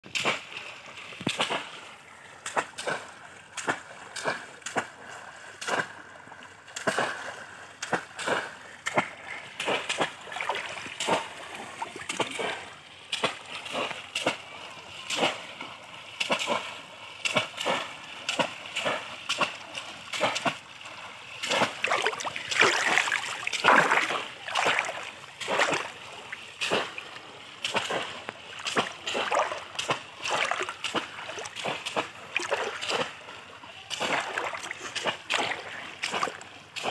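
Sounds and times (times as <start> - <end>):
fish traps splashing into water: 0.1 - 1.8, 2.4 - 36.9
legs wading through water: 0.1 - 36.9.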